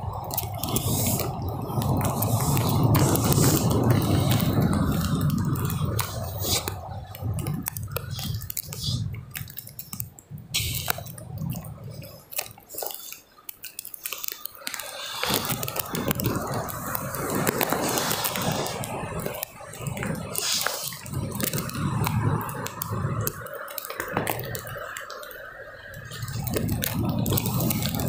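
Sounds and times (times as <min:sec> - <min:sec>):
wind buffeting microphone: 0:00.0 - 0:13.5, 0:14.2 - 0:28.0
small clicks and taps: 0:00.0 - 0:28.0.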